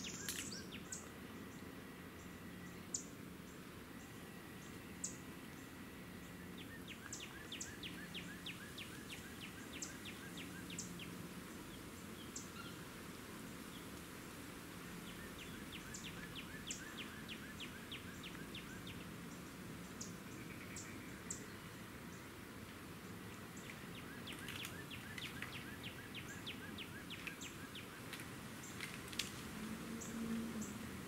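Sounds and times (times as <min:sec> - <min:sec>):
wild birds chirping: 0:00.0 - 0:13.9, 0:14.8 - 0:31.0
low outdoor hiss: 0:00.0 - 0:31.0.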